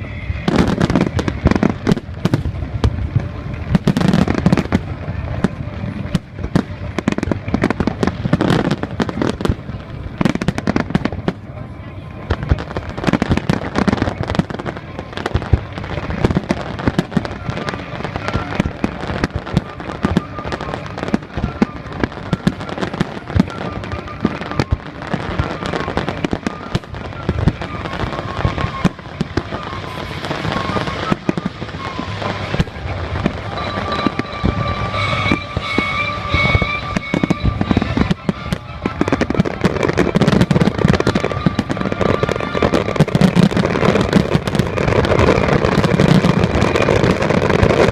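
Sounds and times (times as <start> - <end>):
fireworks bangs and crackles: 0.0 - 47.9
music playing: 0.0 - 47.9.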